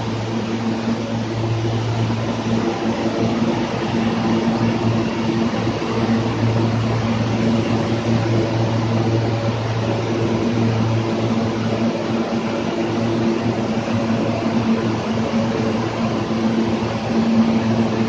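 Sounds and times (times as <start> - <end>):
subway train running: 0.0 - 18.0.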